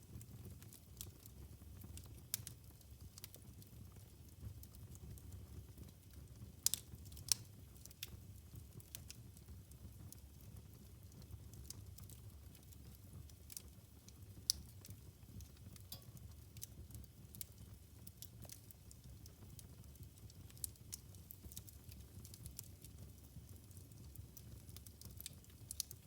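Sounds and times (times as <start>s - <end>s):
low steady fire rumble: 0.0s - 26.0s
wood fire crackling and popping: 0.1s - 26.0s.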